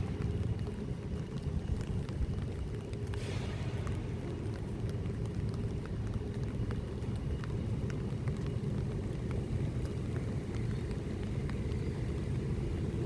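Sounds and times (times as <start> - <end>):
low rumble of road traffic: 0.0 - 13.0
rain ticking: 0.0 - 13.0.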